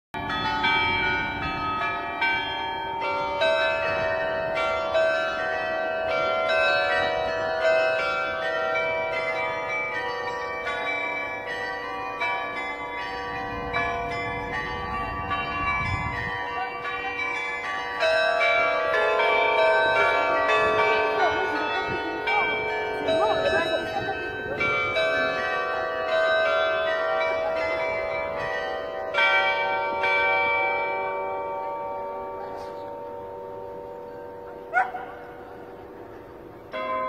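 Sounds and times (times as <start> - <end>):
carillon bells playing tune: 0.2 - 34.6.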